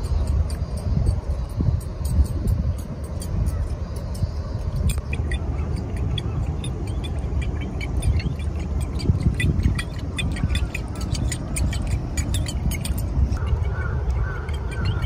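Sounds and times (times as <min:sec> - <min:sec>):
lure clicking and splashing water: 0:00.0 - 0:15.0
steady low rumble: 0:00.0 - 0:15.0.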